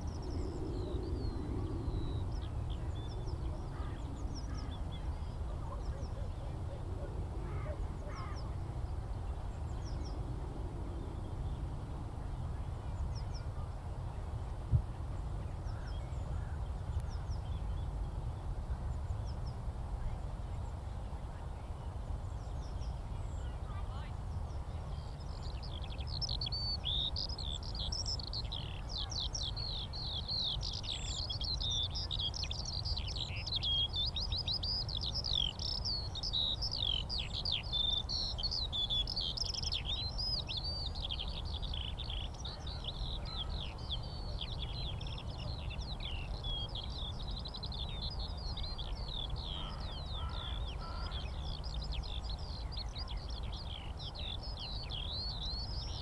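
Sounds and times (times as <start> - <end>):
skylark song: 0.0 - 56.0.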